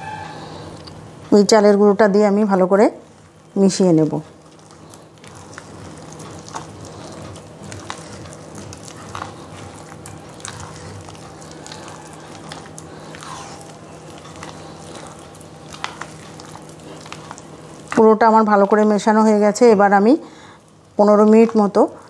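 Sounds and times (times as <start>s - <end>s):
wet batter squelching: 2.3s - 22.0s.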